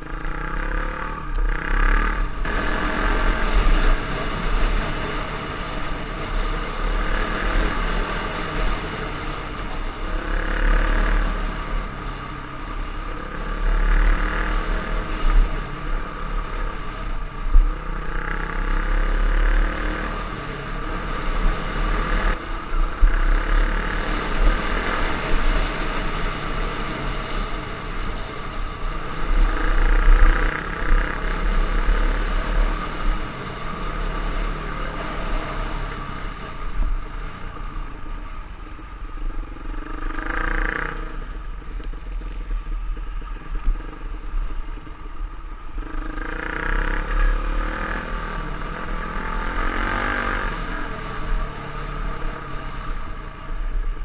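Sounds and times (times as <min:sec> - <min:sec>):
trail bike engine revving: 0:00.0 - 0:54.0.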